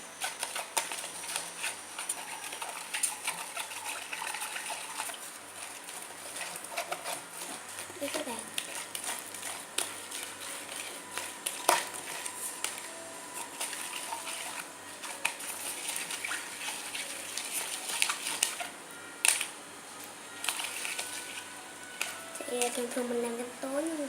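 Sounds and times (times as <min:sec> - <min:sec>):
wet squelching slime: 0:00.2 - 0:18.7, 0:20.4 - 0:23.1.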